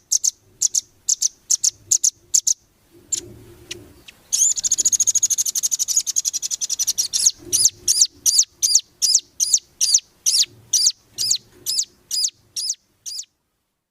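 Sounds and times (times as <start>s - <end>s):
songbird trilling: 0.0s - 13.4s.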